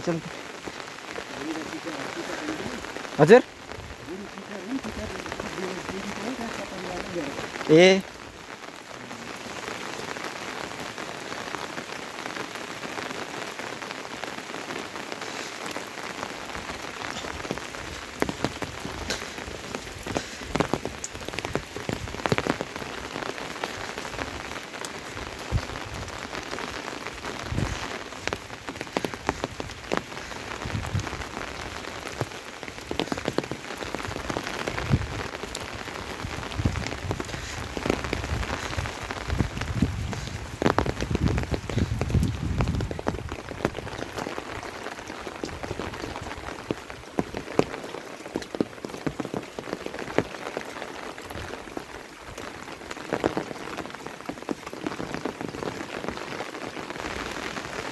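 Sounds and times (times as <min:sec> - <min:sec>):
raindrops striking a surface: 0:00.0 - 0:57.9
steady rain hiss: 0:00.0 - 0:57.9.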